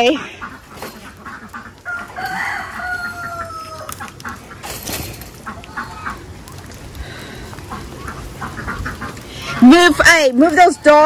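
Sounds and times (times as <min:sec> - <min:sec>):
chickens clucking: 0:00.0 - 0:11.0
ducks quacking: 0:00.0 - 0:11.0.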